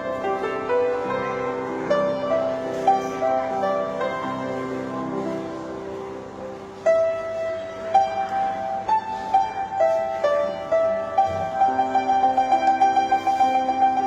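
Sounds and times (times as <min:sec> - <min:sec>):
solo piano melody: 0:00.0 - 0:14.0.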